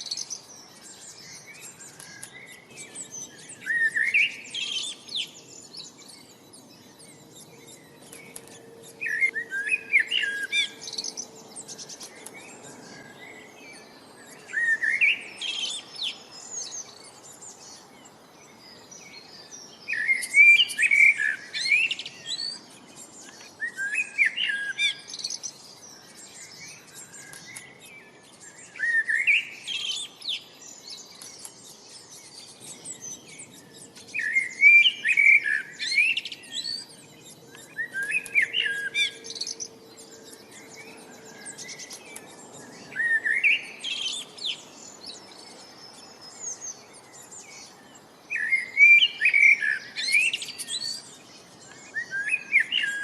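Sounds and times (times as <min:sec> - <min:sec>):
soft high bird chirps: 0:00.0 - 0:53.0
songbird singing rising notes: 0:00.0 - 0:53.0.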